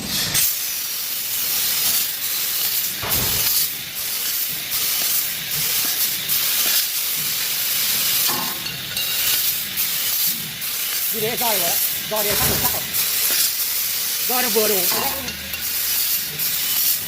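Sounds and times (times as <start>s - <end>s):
laser cutter gas jet hissing: 0.0s - 17.0s.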